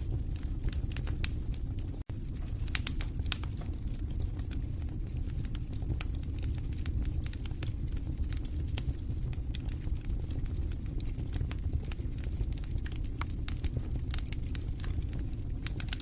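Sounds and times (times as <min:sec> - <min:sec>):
fire crackling and popping: 0:00.0 - 0:16.0
low rumble of flame: 0:00.0 - 0:16.0.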